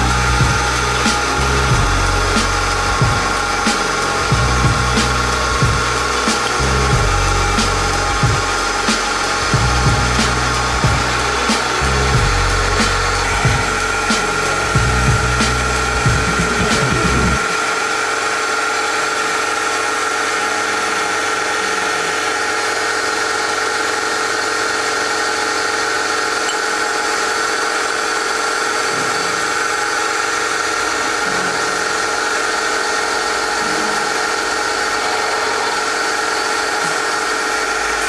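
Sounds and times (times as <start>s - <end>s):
milling machine whining: 0.0s - 38.0s.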